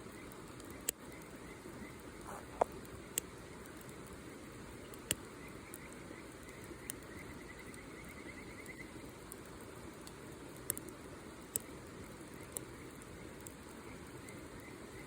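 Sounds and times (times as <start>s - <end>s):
campfire burning: 0.0s - 15.0s
fire pops and crackles: 0.1s - 15.0s.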